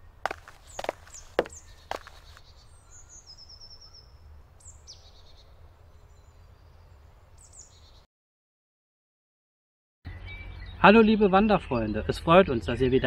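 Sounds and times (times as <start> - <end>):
birds singing faintly: 0.0 - 8.1, 10.1 - 13.0.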